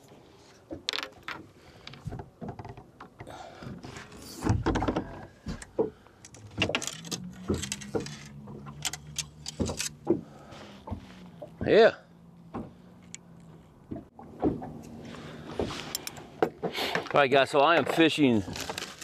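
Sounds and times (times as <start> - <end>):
fishing gear rattling and knocking: 0.6 - 19.0.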